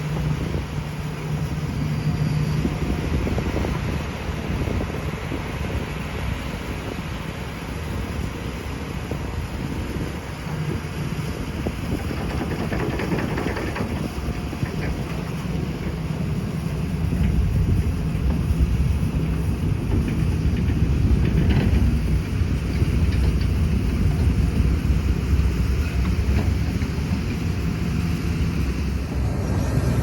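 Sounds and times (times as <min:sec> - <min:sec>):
excavator diesel engine under load: 0:00.0 - 0:30.0.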